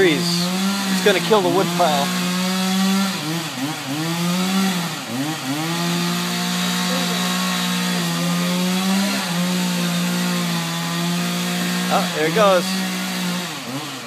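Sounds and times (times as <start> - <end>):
chainsaw cutting tree trunk: 0.0 - 14.0.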